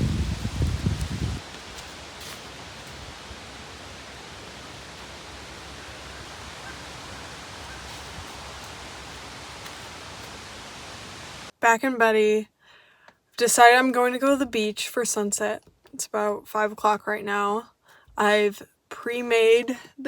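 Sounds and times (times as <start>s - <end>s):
outdoor ambient hiss: 0.0s - 16.3s.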